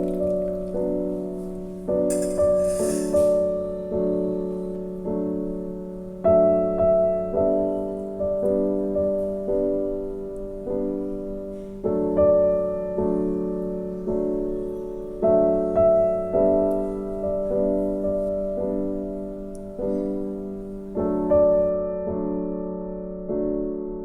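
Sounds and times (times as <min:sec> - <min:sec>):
slow solo piano chords: 0:00.0 - 0:24.0.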